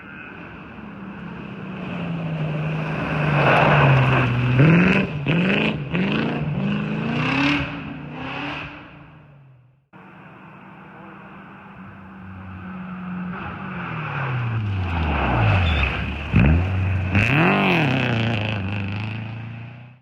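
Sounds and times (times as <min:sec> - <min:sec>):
rally car engine passing: 0:00.0 - 0:09.4, 0:10.0 - 0:20.0.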